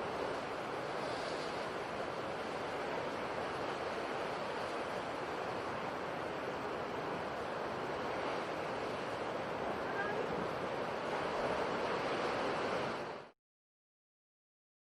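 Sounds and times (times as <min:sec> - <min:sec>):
sea surf washing: 0:00.0 - 0:13.3.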